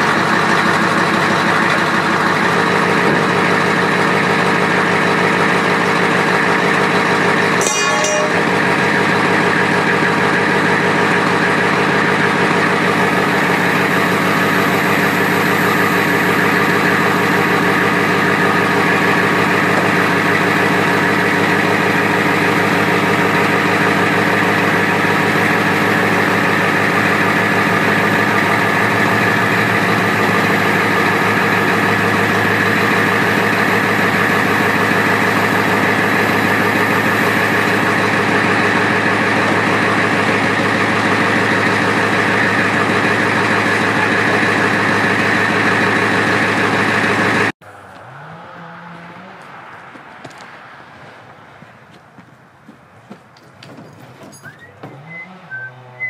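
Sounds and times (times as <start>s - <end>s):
truck engine idling: 0.0s - 48.4s.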